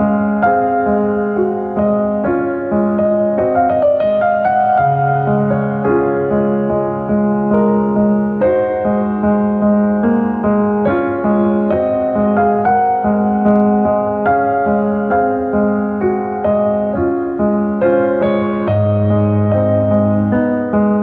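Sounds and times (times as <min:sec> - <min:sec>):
slow solo piano piece: 0:00.0 - 0:21.0.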